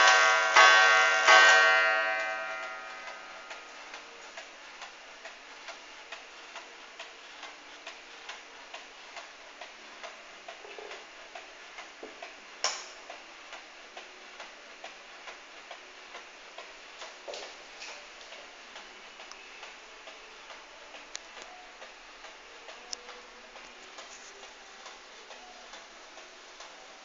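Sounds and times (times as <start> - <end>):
pendulum clock ticking: 0.0 - 27.0.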